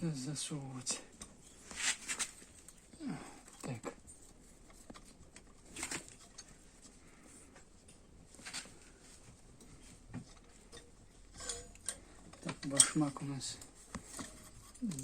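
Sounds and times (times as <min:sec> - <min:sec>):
light clicks and rustles: 0:01.0 - 0:15.0.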